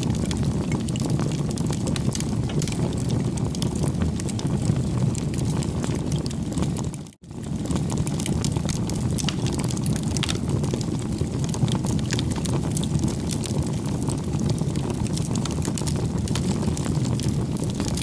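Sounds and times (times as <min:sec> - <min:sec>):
fire crackles and pops: 0:00.0 - 0:18.0
wood fire rumbling: 0:00.0 - 0:18.0.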